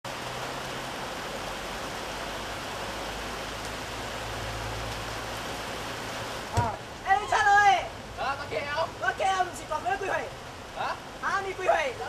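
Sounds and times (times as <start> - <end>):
heavy rain on concrete: 0.0 - 12.0.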